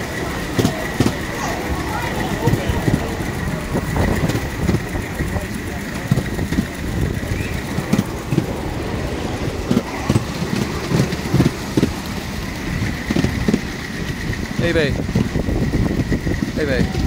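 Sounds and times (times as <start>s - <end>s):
miniature train engine: 0.0s - 17.0s
wheels knocking on track: 0.0s - 17.0s.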